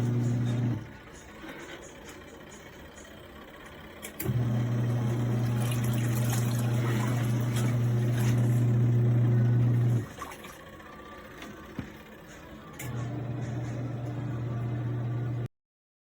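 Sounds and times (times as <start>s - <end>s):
washing machine motor humming: 0.0s - 15.5s.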